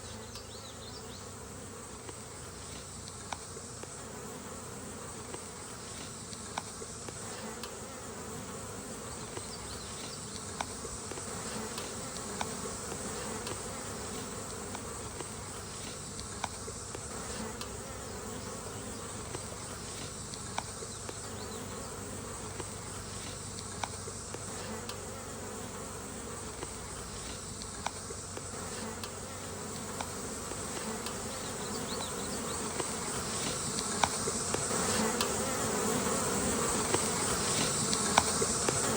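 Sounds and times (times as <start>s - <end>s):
bee swarm buzzing: 0.0s - 38.9s.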